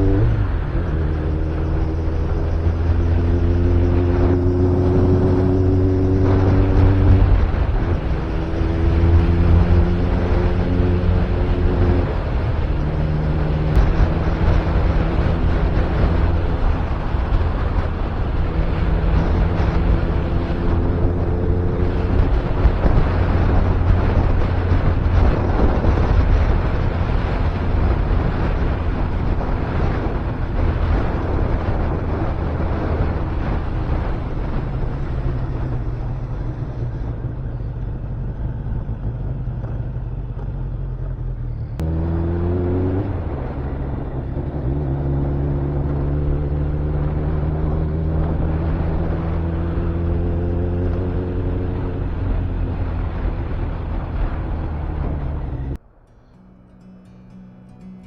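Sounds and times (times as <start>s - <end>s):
motorcycle engine revving: 0.0s - 55.8s.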